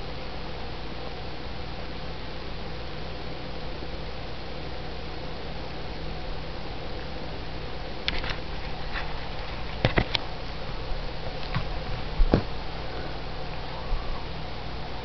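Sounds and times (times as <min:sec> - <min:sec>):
steady hiss and low hum: 0:00.0 - 0:15.0.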